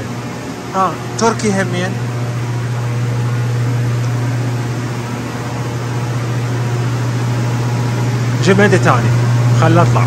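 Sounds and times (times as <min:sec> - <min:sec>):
constant low hum: 0:00.0 - 0:10.0
cooling fans rushing: 0:00.0 - 0:10.0.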